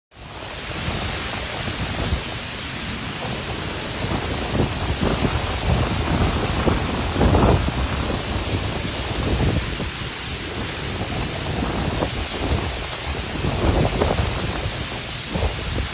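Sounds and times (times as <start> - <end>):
heavy rain on pavement: 0.1 - 15.9.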